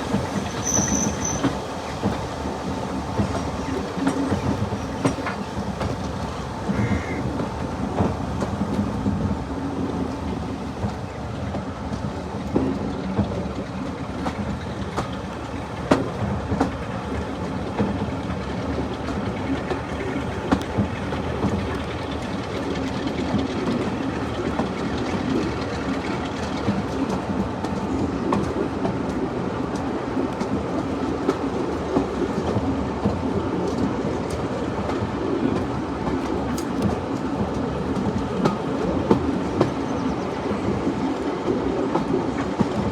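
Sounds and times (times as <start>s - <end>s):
clatter over rail joints: 0.0s - 42.9s
train wheels rumbling on track: 0.0s - 42.9s.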